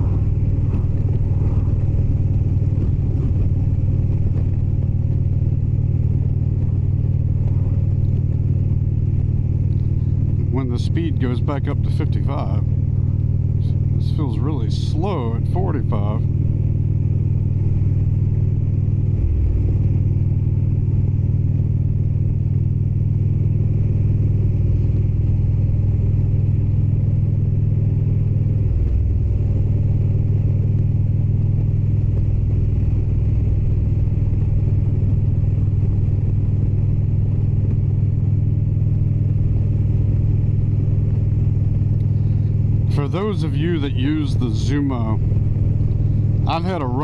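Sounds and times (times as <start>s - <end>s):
motorcycle engine rumbling: 0.0s - 47.0s.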